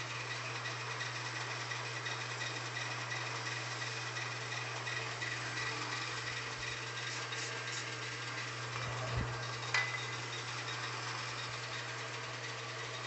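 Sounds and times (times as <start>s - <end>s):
wood lathe motor hum: 0.0s - 13.0s.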